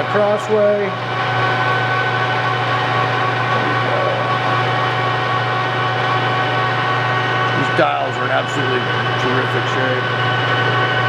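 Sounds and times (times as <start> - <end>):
milling machine humming: 0.0 - 11.0.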